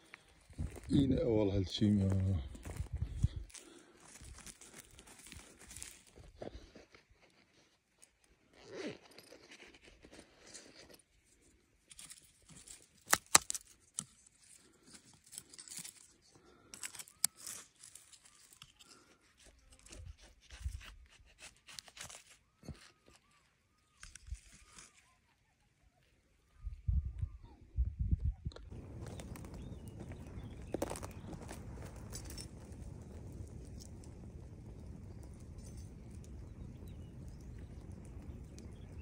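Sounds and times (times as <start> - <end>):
foliage and soil rustling: 0.0 - 25.3, 28.7 - 39.0.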